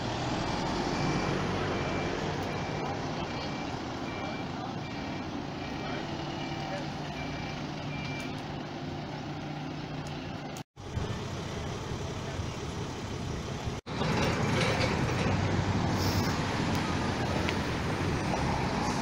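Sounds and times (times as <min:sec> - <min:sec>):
road traffic noise: 0:00.0 - 0:19.0
vehicle engine idling: 0:01.8 - 0:18.2.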